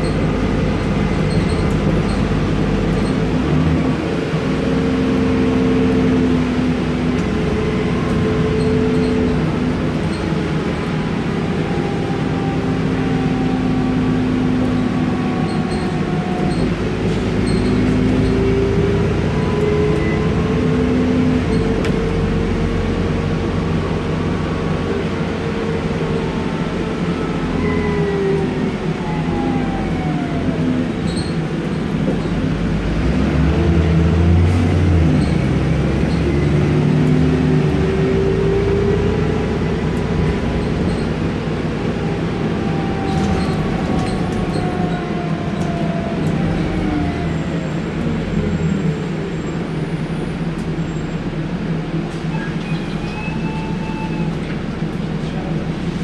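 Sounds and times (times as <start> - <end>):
bus engine drone with whine: 0.0 - 56.0.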